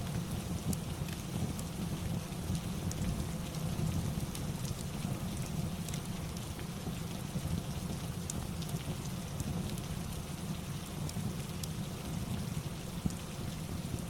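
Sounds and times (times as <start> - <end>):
rain: 0.0 - 14.0.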